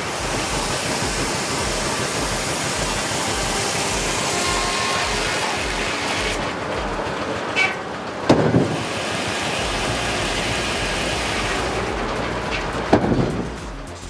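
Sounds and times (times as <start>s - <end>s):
loud knock: 0.0s - 13.9s
machinery noise: 0.0s - 14.0s.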